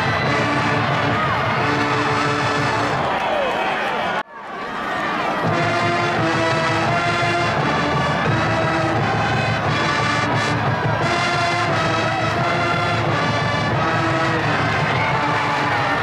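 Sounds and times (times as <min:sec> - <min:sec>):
brass band playing: 0:00.0 - 0:03.2, 0:05.4 - 0:16.0
drums: 0:00.0 - 0:03.4, 0:05.2 - 0:16.0.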